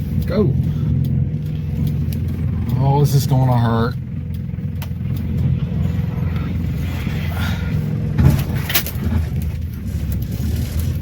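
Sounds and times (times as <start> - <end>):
truck engines straining: 0.0 - 11.0.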